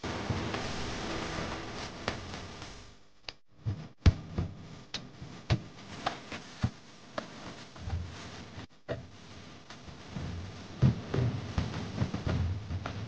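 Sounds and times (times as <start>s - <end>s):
steady hiss: 0.0s - 3.2s, 4.6s - 13.0s.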